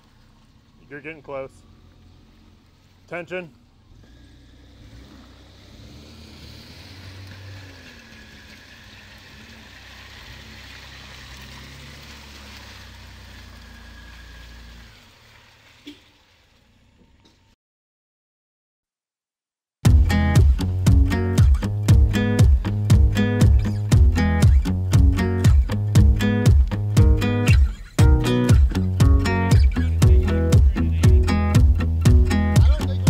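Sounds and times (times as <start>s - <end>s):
tyres churning mud and water: 0.0s - 16.8s, 19.9s - 33.0s
truck engines under load: 0.0s - 17.6s, 19.9s - 33.0s.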